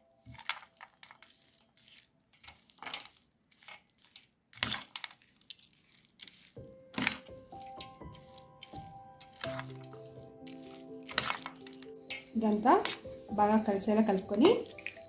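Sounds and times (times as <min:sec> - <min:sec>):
metal ladle scraping rice in bowl: 0:00.2 - 0:13.3.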